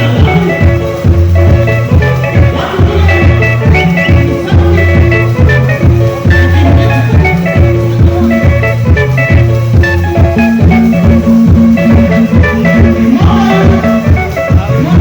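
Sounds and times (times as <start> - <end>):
band playing instrumental music: 0.0 - 15.0
bass guitar line: 0.0 - 15.0
plucked electric guitar notes: 0.0 - 15.0.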